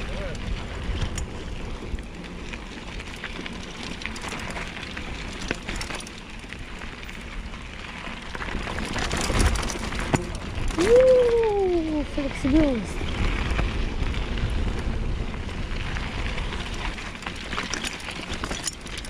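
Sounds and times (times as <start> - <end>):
wind noise: 0.0 - 6.0, 8.3 - 19.0
bike rattling: 0.0 - 19.0
tyres crunching over dirt and stones: 0.4 - 11.1, 13.0 - 19.0.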